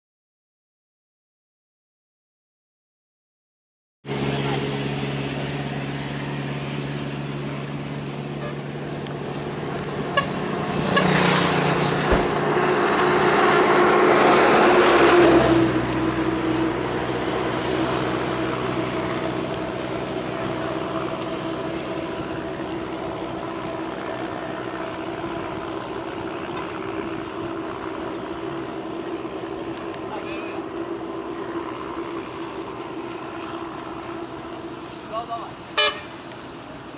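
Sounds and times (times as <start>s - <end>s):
engine running: 4.1s - 36.9s.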